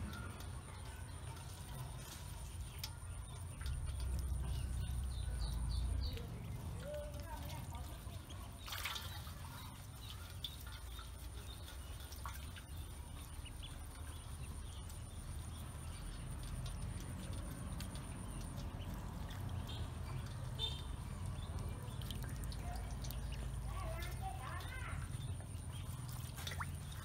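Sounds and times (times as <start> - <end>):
ducklings splashing in water: 0.0 - 27.0.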